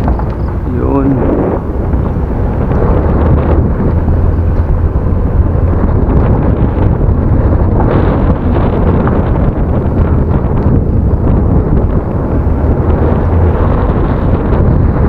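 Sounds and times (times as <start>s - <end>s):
vehicle engine running: 0.0s - 15.0s
wind buffeting microphone: 0.0s - 15.0s.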